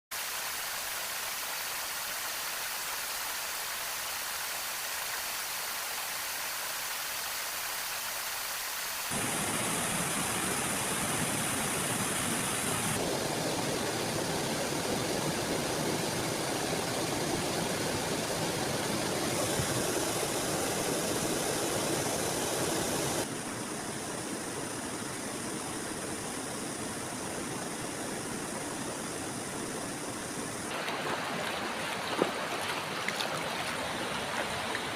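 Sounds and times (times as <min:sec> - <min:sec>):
river water rushing: 0:00.2 - 0:23.3, 0:25.8 - 0:34.9.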